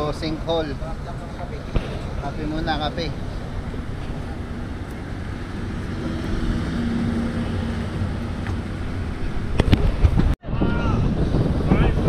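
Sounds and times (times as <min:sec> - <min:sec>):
low vehicle rumble: 0:00.0 - 0:11.7
road and wind noise: 0:00.0 - 0:12.0.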